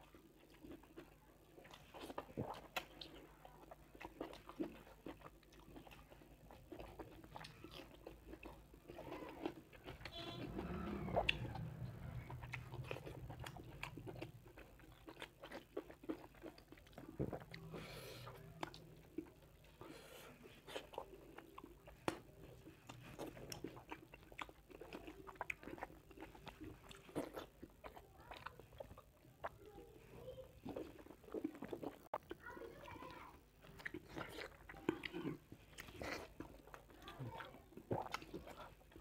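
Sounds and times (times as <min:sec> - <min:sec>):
man chewing food: 0:00.0 - 0:39.0.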